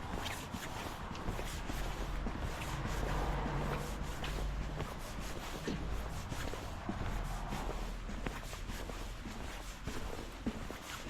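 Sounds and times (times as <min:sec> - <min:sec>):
steady low rumble: 0:00.0 - 0:10.5
footsteps walking: 0:00.0 - 0:11.0.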